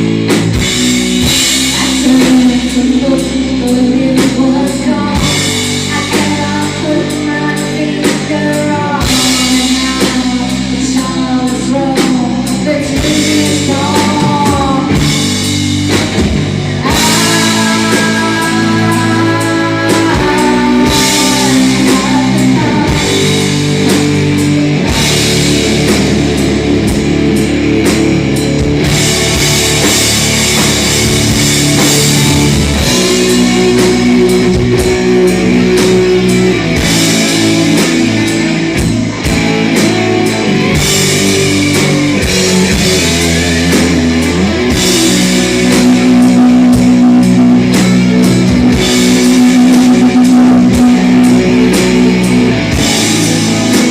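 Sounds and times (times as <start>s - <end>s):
distorted electric guitar chords: 0.0s - 53.9s
drum kit: 0.0s - 53.9s.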